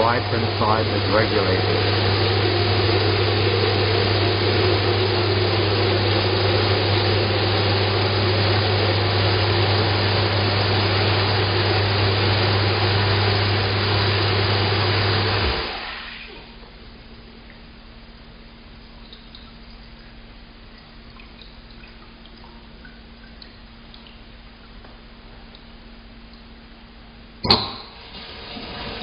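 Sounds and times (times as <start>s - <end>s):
steady low hum: 0.0s - 13.8s, 15.4s - 28.1s.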